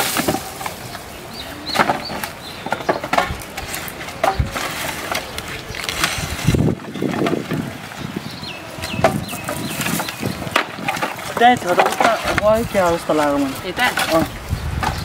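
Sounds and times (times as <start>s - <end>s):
wooden planks knocking and clattering: 0.0s - 1.1s, 1.7s - 15.0s.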